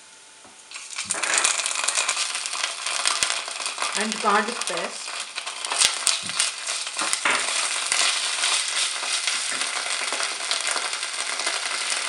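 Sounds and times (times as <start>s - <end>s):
onions sizzling in hot oil: 0.0s - 12.0s
wooden spoon stirring and scraping: 0.7s - 12.0s.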